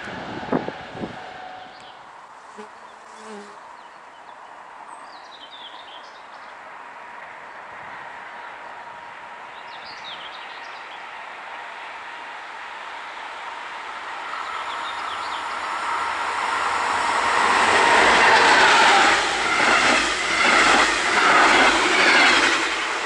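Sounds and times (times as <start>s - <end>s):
steady outdoor hiss: 0.0s - 23.0s.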